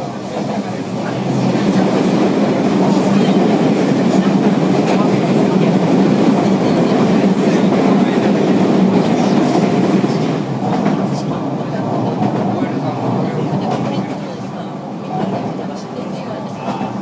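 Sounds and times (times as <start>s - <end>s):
train running rumble and hum: 0.0s - 17.0s.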